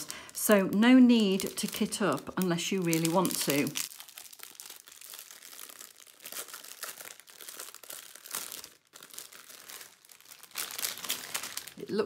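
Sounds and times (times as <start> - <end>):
plastic baggies crinkling: 0.0 - 12.0.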